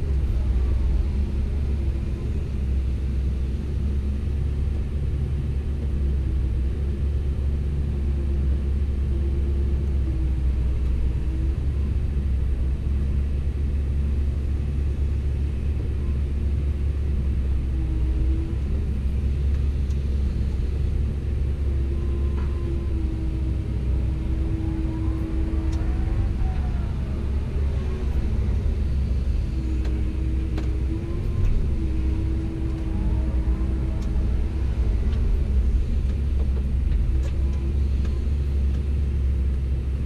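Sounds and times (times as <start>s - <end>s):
excavator diesel engine rumbling: 0.0s - 40.0s.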